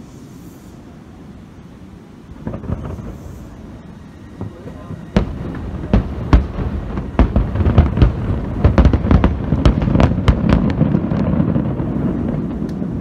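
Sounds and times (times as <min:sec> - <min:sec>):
low lingering rumble: 0:02.3 - 0:13.0
fireworks bursts and cracks: 0:02.4 - 0:13.0.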